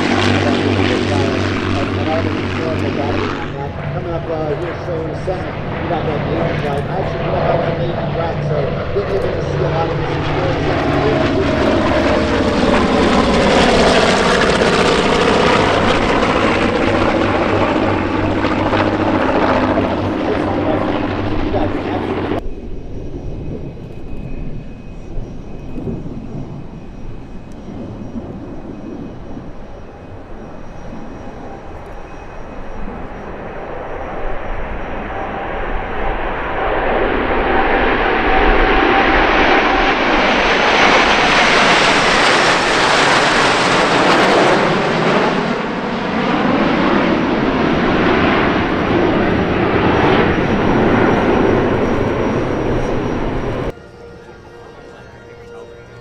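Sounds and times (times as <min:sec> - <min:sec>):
airplanes passing overhead: 0:00.0 - 0:56.0.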